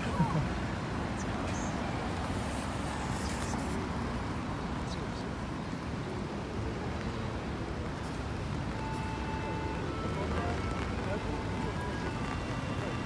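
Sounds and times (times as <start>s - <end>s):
faint voices of passers-by: 0.0s - 13.0s
low traffic rumble: 0.0s - 13.0s.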